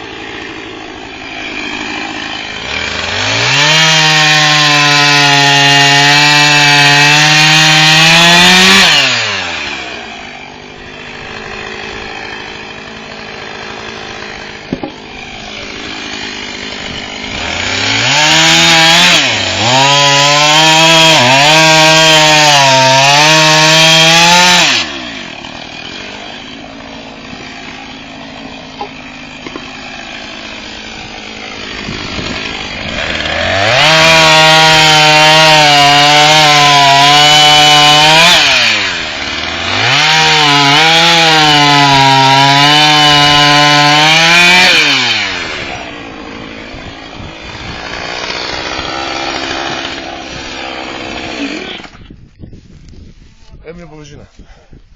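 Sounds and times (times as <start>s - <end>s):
chainsaw revving: 0.0s - 52.0s.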